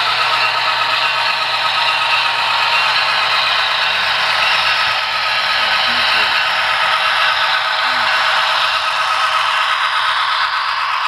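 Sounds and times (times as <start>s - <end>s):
train wheels clattering on track: 0.0s - 11.0s.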